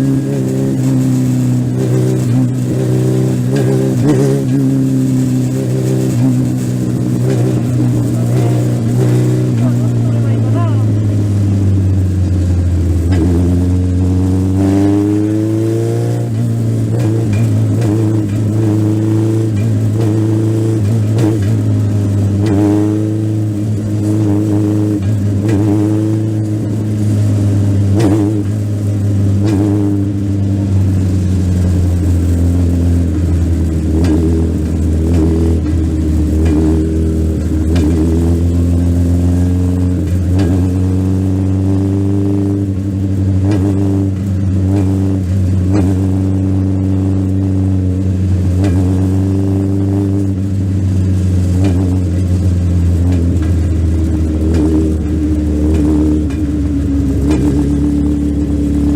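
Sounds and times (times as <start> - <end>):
motorcycle engine racing: 0.0 - 58.9
steady low drone: 0.0 - 58.9.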